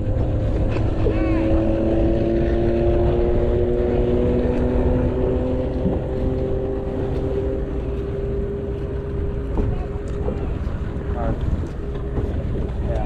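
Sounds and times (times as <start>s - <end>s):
outboard motor running: 0.0s - 13.0s
wind rumbling on microphone: 0.0s - 13.0s.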